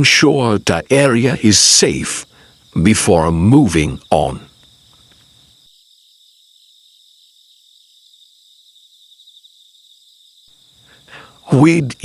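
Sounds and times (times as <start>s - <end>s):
faint insect chorus trilling: 0.0s - 12.0s.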